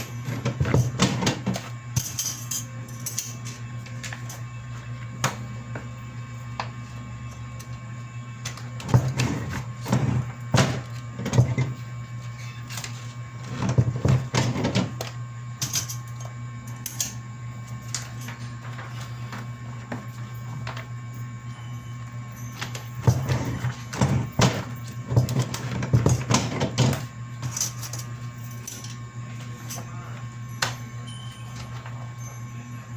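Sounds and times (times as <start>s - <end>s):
low machine hum: 0.0s - 32.9s.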